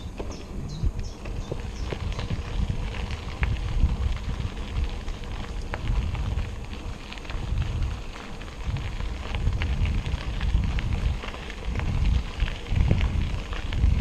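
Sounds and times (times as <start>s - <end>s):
tyres crackling on rough surface: 0.0s - 14.0s
wind rumbling on microphone: 0.0s - 14.0s.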